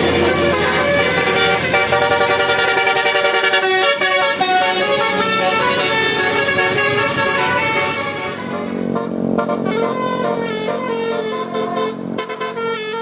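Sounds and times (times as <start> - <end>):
bus multi-tone horn melody: 0.0 - 13.0.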